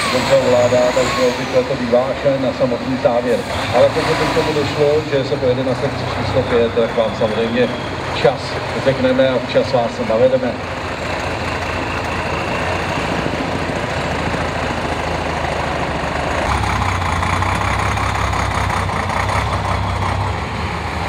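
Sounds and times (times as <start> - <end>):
heavy diesel truck engine: 0.0 - 21.0.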